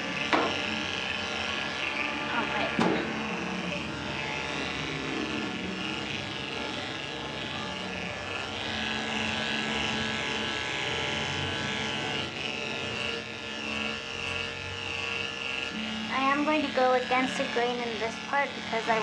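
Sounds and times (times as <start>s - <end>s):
dog clipper running: 0.0s - 19.0s.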